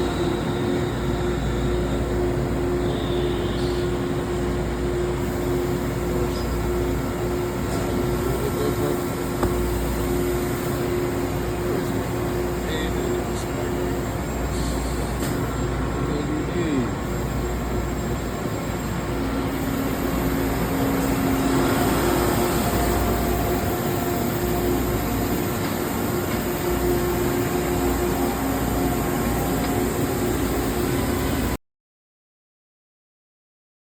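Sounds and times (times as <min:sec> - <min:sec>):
lathe machine drone: 0:00.0 - 0:31.6.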